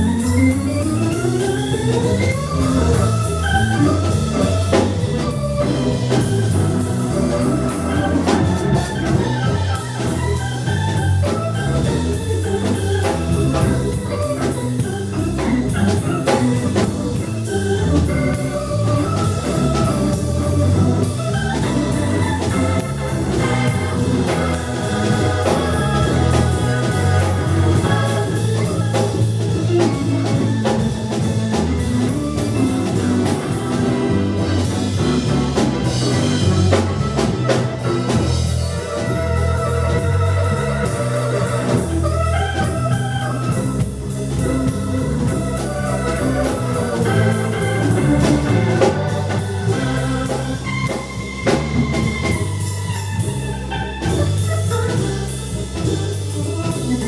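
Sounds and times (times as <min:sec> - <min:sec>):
bass: 0:00.0 - 0:57.0
drums: 0:00.0 - 0:57.0
organ: 0:00.0 - 0:57.0.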